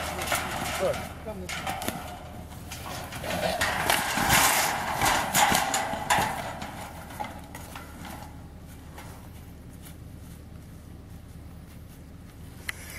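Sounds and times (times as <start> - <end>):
hooves knocking and scuffling: 0.0 - 12.9.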